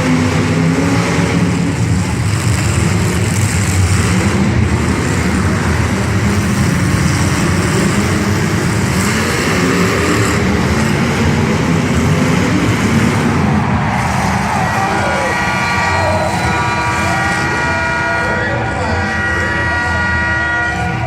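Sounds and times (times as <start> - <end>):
loud unmuffled car engines rumbling: 0.0 - 21.0.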